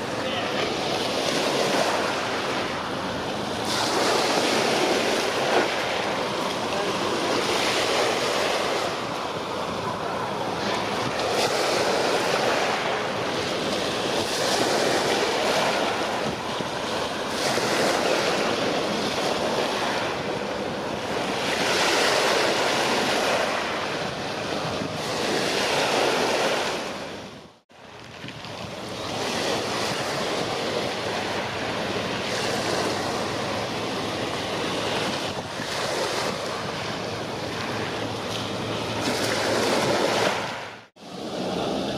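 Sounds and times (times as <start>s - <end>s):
waves washing on shore: 0.0s - 41.9s
wind buffeting microphone: 0.0s - 41.9s.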